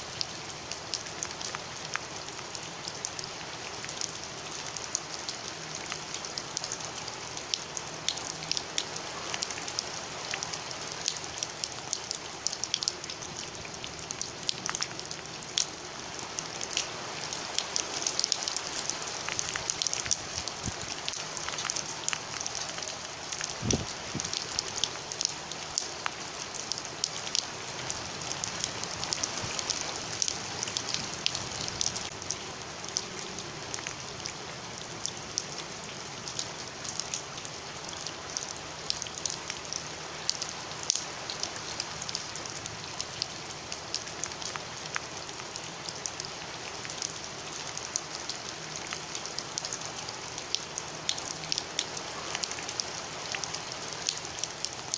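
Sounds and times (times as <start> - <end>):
heavy rain on wet pavement: 0.0 - 54.9.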